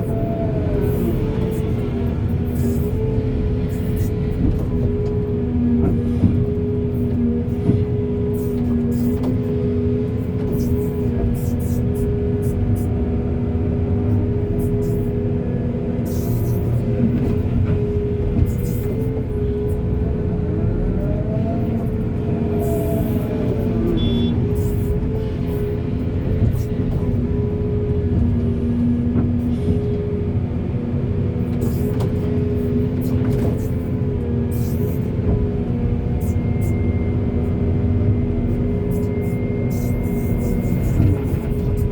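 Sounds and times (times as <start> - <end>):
diesel engine running under load: 0.0 - 41.9.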